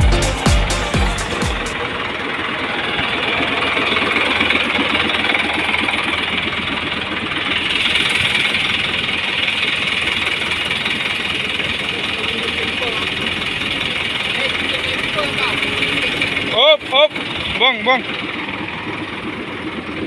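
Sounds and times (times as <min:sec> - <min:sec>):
construction vehicle engine running: 0:00.0 - 0:20.0.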